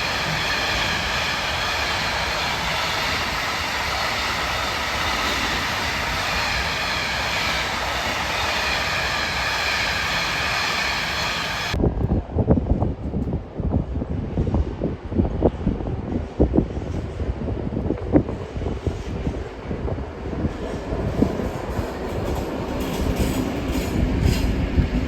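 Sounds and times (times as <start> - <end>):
train wheels rumbling on rails: 0.0 - 25.0
wind buffeting microphone: 0.0 - 25.0.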